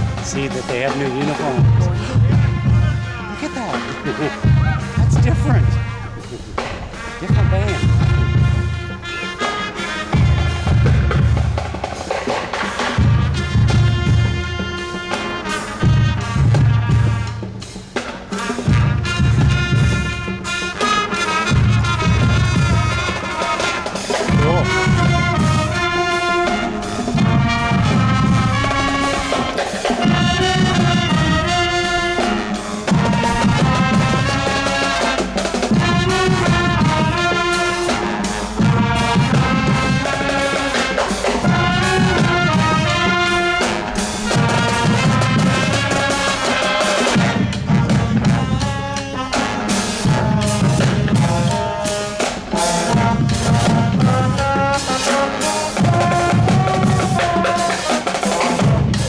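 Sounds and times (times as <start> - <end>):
bass drums beating: 0.0 - 59.0
brass horns playing: 0.0 - 59.0.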